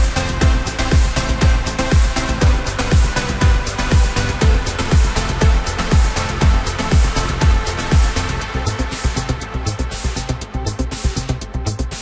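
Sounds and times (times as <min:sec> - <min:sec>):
electronic dance music: 0:00.0 - 0:12.0
four-on-the-floor kick drum: 0:00.0 - 0:12.0.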